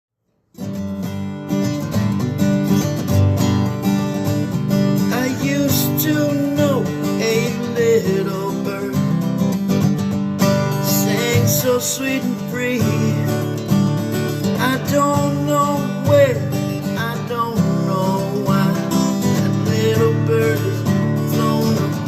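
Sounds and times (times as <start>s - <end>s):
acoustic guitar playing: 0.4s - 22.0s.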